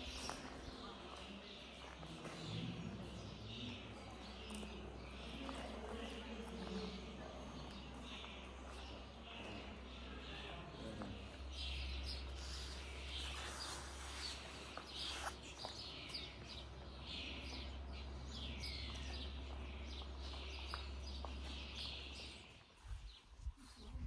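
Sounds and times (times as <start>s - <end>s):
birds chirping: 0.0s - 23.4s.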